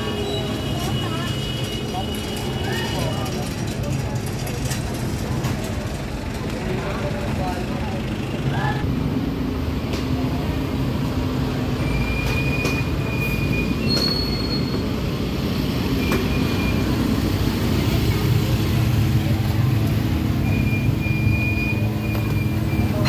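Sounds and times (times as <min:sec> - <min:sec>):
low rumble of vehicle engines: 0:00.0 - 0:23.0.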